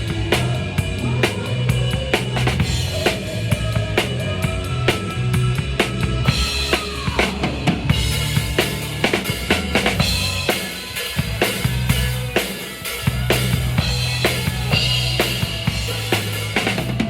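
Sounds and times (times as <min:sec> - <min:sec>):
drum kit beat: 0:00.0 - 0:17.0
live band music: 0:00.0 - 0:17.0.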